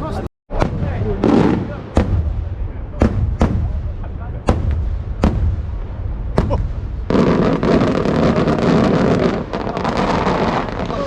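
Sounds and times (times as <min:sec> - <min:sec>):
firework crackling salvo: 0:00.5 - 0:11.0.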